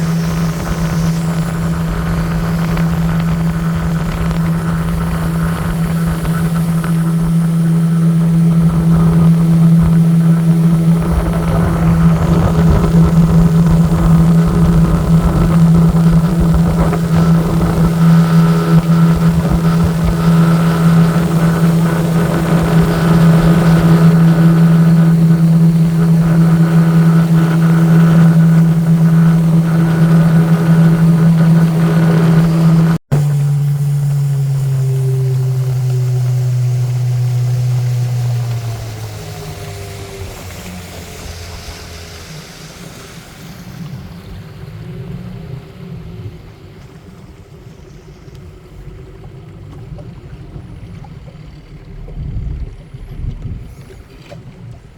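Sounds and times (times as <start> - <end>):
boat engine droning: 0.0 - 54.9
low steady hum: 0.0 - 54.9.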